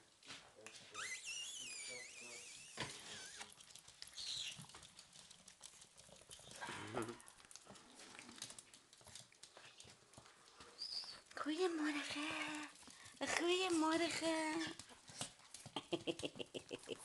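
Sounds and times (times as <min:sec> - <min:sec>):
puppy claws clicking on tiles: 0:02.8 - 0:17.0.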